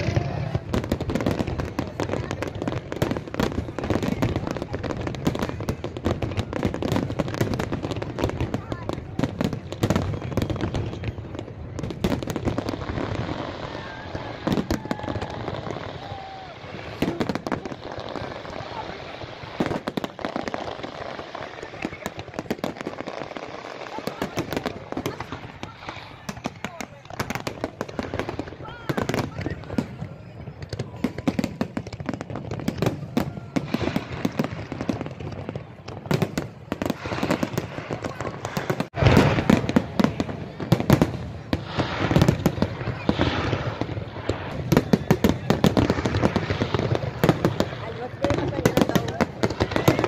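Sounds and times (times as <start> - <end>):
fireworks bangs and pops: 0.0 - 50.0
fireworks crackling: 0.0 - 50.0.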